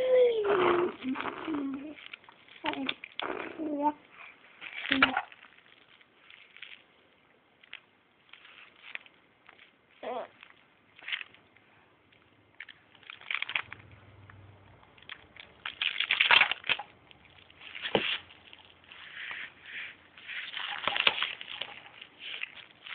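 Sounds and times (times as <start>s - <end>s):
crinkle toys rustling: 0.1s - 22.9s.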